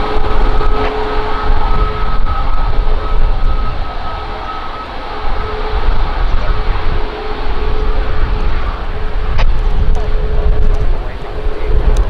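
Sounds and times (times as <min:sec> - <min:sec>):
faint steady whine: 0:00.0 - 0:12.0
wind buffeting microphone: 0:00.0 - 0:12.0.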